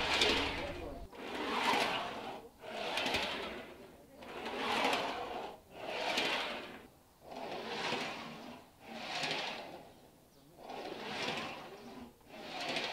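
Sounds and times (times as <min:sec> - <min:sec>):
trolley rolling on metal rails: 0:00.0 - 0:12.9.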